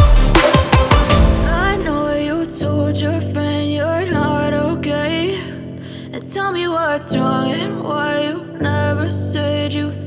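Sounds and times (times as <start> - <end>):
melodic song: 0.0 - 10.0.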